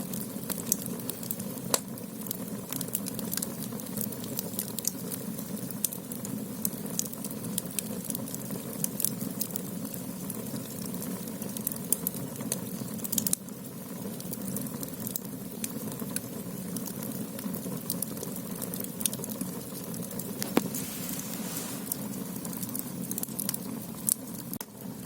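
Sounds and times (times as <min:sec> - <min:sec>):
fire rushing in a firebox: 0:00.0 - 0:25.0
firewood crackling and popping: 0:00.0 - 0:25.0.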